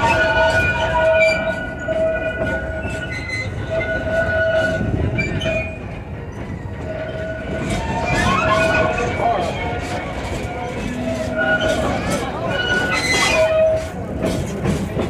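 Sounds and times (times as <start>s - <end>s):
high wheel squealing: 0.0s - 14.5s
train rumbling: 0.0s - 15.0s.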